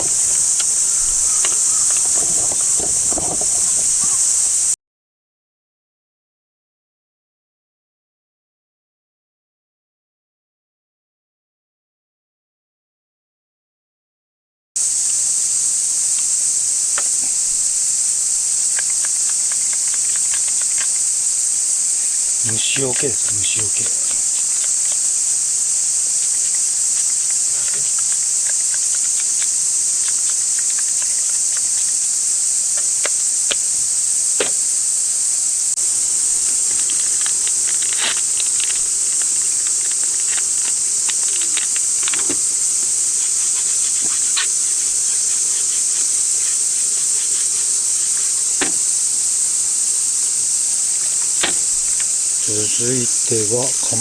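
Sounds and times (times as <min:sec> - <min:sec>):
cicadas shrilling: 0:00.0 - 0:04.8, 0:14.8 - 0:54.0.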